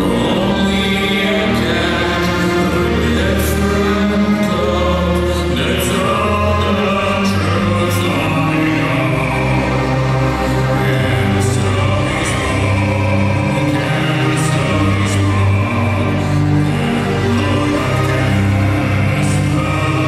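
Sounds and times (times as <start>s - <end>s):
choir singing sustained chords: 0.0s - 20.0s
orchestra playing: 0.0s - 20.0s.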